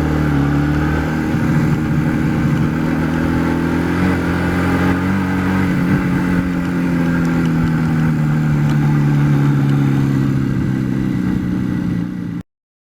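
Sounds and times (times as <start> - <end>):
two-stroke motorcycle engine: 0.0 - 12.4.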